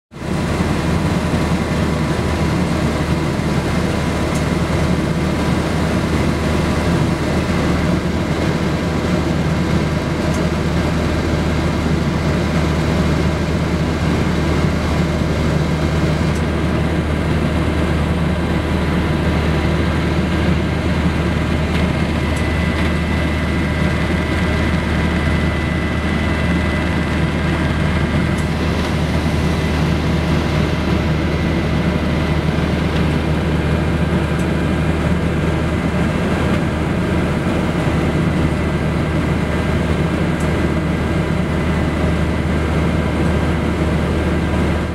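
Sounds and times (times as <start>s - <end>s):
engine whine: 0.1s - 44.9s
turboprop cabin drone: 0.1s - 44.9s.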